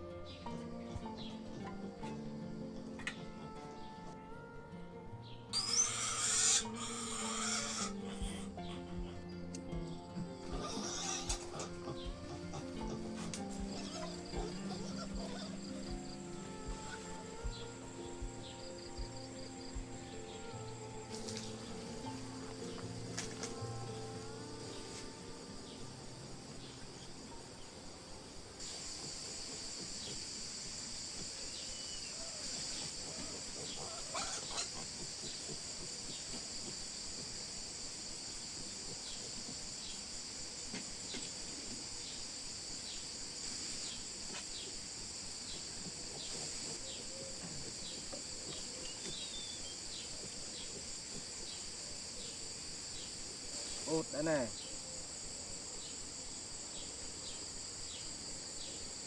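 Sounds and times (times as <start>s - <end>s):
insect chorus buzzing: 0.0s - 59.0s.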